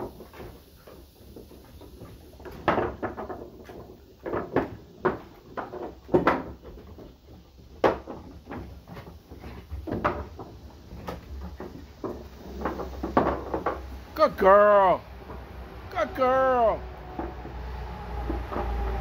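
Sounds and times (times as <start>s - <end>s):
puppies scrambling on wooden deck: 0.0s - 19.0s.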